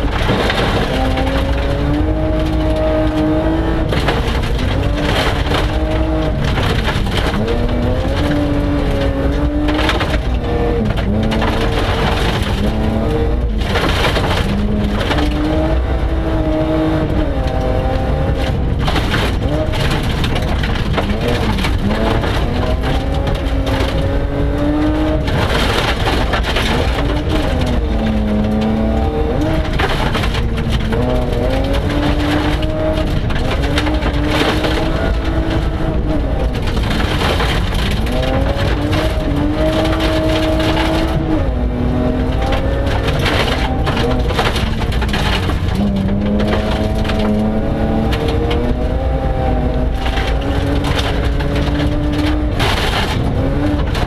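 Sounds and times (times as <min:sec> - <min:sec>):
gravel pinging against underbody: 0:00.0 - 0:54.0
rally car engine at full throttle: 0:00.0 - 0:54.0.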